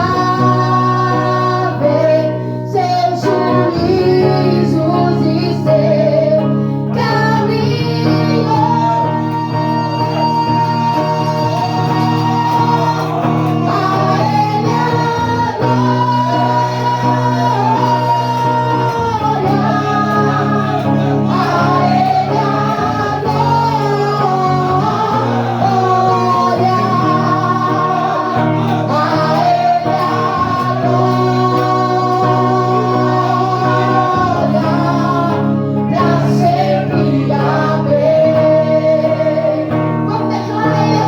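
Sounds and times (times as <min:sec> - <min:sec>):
person singing: 0:00.0 - 0:41.0
held bass notes: 0:07.0 - 0:41.0.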